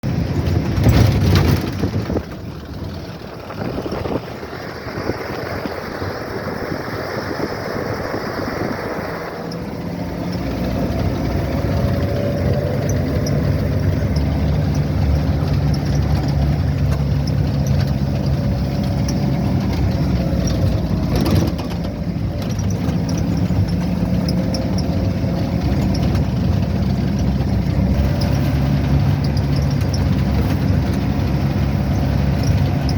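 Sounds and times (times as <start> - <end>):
road rumble: 0.0 - 32.9
vehicle engine running: 0.0 - 32.9.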